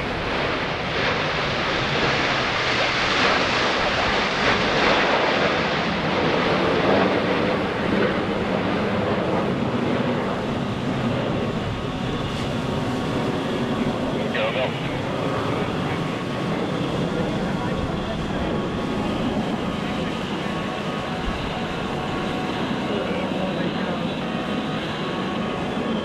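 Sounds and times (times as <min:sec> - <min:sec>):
jets passing overhead: 0:00.0 - 0:26.0.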